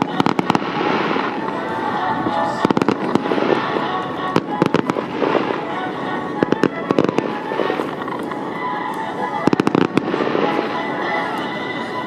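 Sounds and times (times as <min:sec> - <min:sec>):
fireworks bangs: 0:00.0 - 0:12.0
fireworks crackling: 0:00.0 - 0:12.0
music playing: 0:00.0 - 0:12.0.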